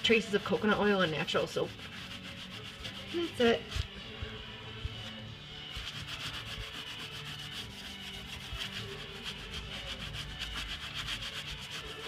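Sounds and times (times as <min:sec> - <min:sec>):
sponge scrubbing: 0:00.0 - 0:03.9, 0:04.7 - 0:12.0.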